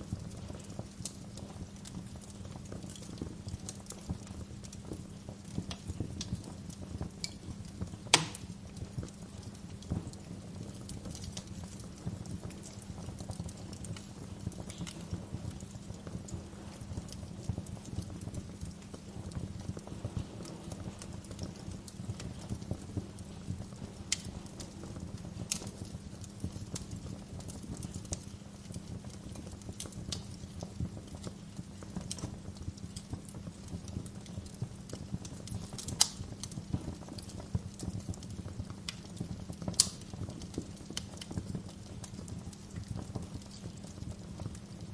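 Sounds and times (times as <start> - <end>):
fire crackles and pops: 0.0 - 44.9
fire flames rumbling: 0.0 - 44.9.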